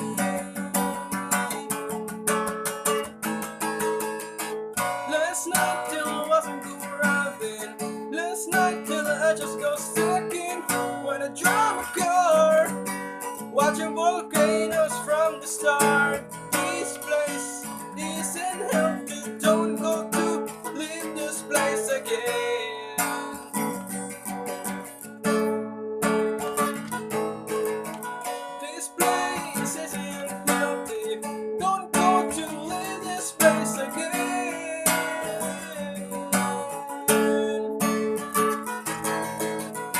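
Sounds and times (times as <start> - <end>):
bending lead guitar melody: 0.0 - 39.9
strummed guitar chords: 0.0 - 39.9.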